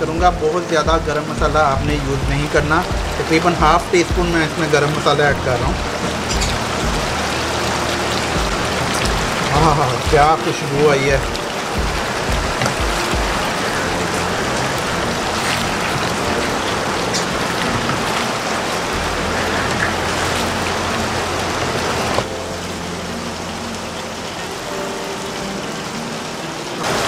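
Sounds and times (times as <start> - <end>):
food sizzling in oil: 1.3 - 27.0.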